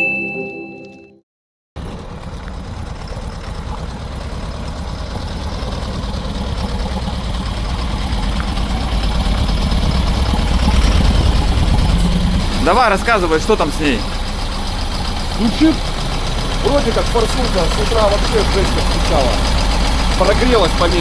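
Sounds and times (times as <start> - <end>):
diesel engine idling with knock: 1.8 - 21.0.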